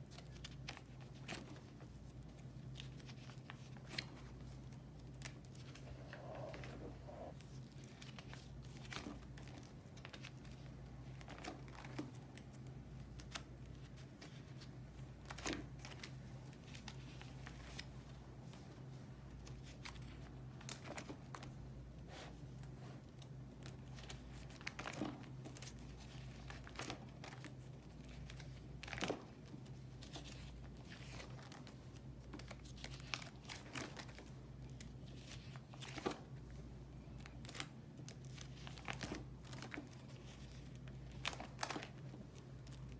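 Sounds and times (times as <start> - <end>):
faint low hum: 0.0 - 42.9
plastic sleeves crinkling: 0.0 - 42.9.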